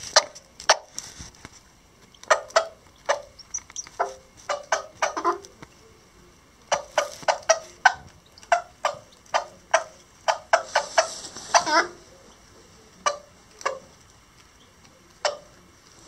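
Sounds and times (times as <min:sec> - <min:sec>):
hen clucking: 0:02.1 - 0:15.8.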